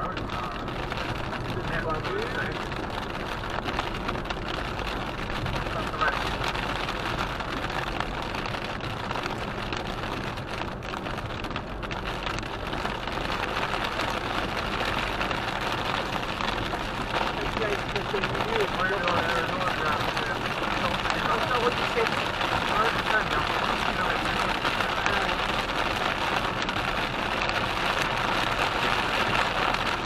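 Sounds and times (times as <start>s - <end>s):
heavy rain on a car: 0.0s - 30.0s
tyre noise on road: 0.0s - 30.0s.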